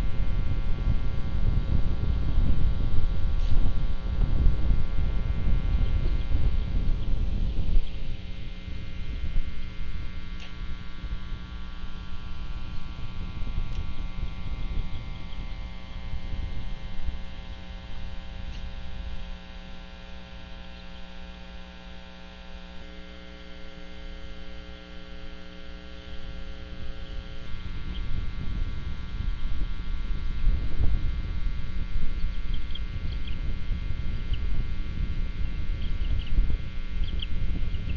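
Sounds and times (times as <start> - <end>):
electrical mains hum: 0.0 - 37.9
low uneven rumble: 0.0 - 37.9.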